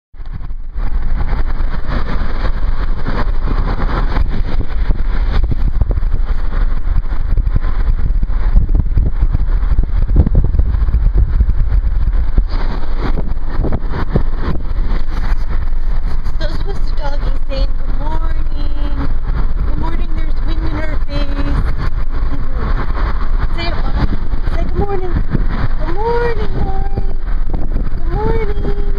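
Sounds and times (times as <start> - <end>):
vehicle rumble and rushing: 0.2 - 28.9.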